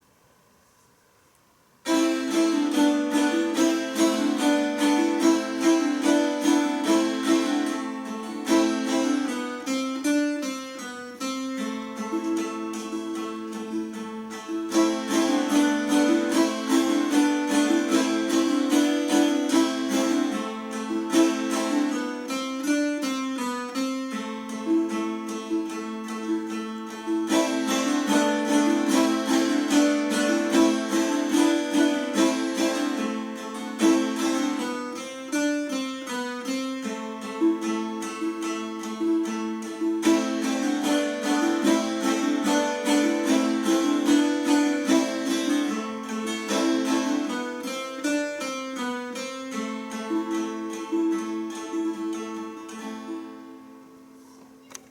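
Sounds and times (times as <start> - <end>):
plucked string instrument duet: 1.8 - 54.9.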